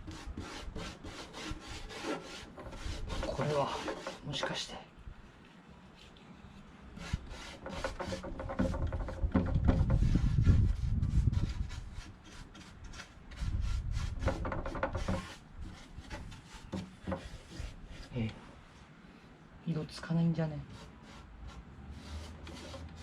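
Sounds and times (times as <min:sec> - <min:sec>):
paintbrush rubbing on wood: 0:00.0 - 0:04.7, 0:05.3 - 0:18.4, 0:20.6 - 0:23.0.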